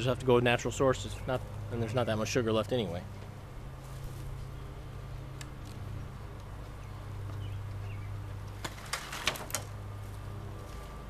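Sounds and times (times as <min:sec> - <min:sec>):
honeybee colony humming: 0:00.0 - 0:11.0.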